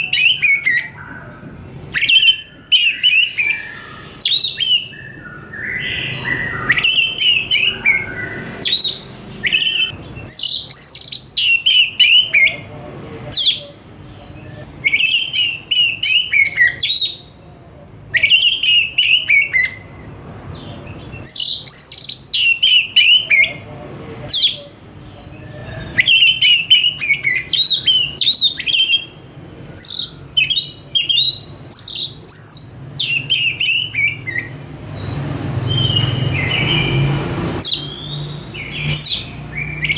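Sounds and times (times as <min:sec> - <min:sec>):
bird singing whistles and chirps: 0:00.0 - 0:12.6, 0:13.3 - 0:17.3, 0:18.1 - 0:23.6, 0:25.3 - 0:39.9.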